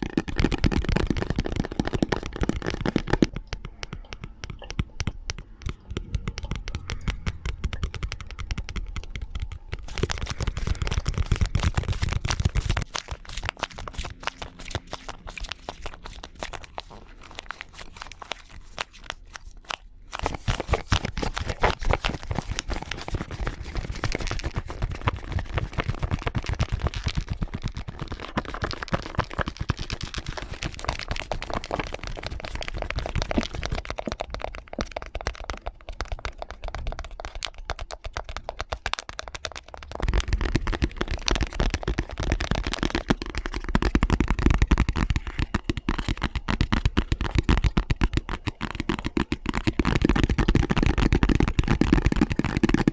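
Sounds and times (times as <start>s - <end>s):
rapid tapping on objects: 0.0s - 52.9s.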